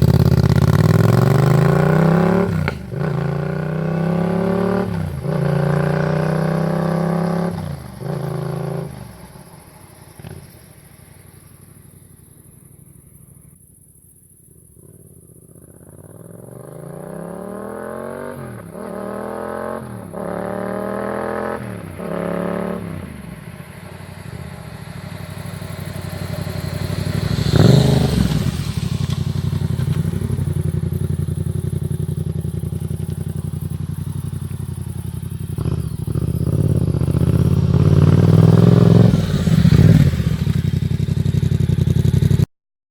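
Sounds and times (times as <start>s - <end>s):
motorcycle engine accelerating: 0.0s - 13.6s, 14.5s - 42.5s.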